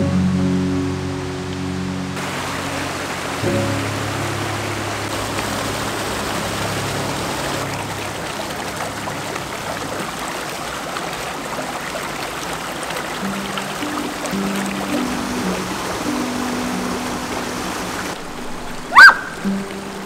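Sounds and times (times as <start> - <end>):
creek rushing over boulders: 0.0 - 20.0.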